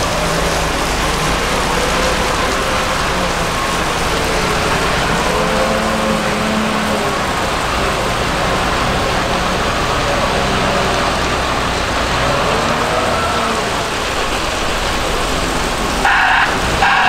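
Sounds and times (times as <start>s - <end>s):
wheel loader diesel engine: 0.0s - 17.0s.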